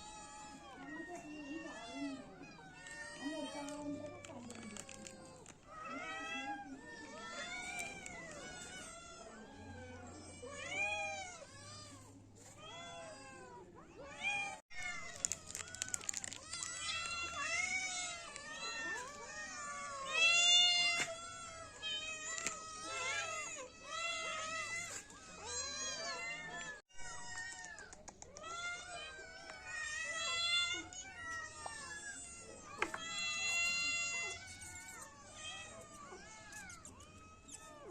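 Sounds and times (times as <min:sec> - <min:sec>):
kittens meowing: 0:00.0 - 0:37.9.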